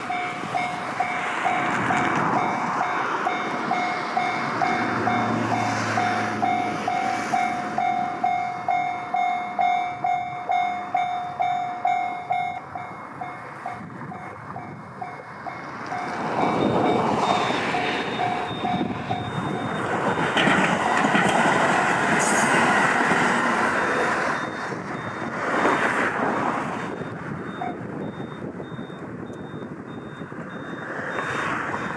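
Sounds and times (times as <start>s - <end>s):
level-crossing warning bell: 0.0s - 25.5s, 26.8s - 31.9s
train passing over crossing: 0.0s - 31.9s.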